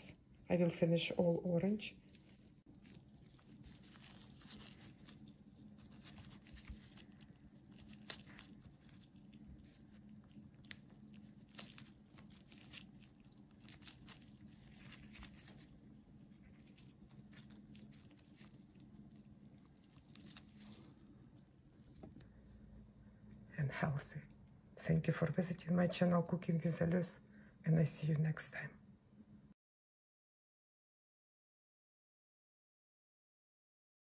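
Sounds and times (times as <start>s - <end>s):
low steady hum: 0.0s - 29.6s.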